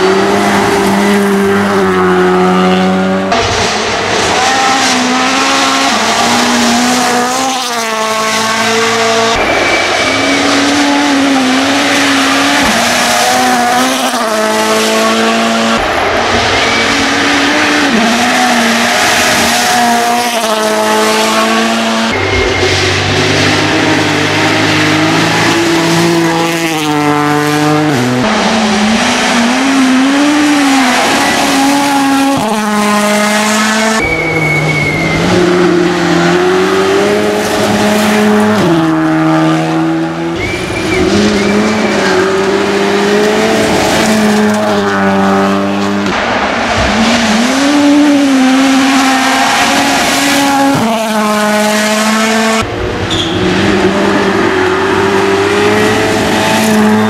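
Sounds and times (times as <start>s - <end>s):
engines revving with gear changes: 0.0s - 57.0s
rally cars passing at full speed: 0.0s - 57.0s.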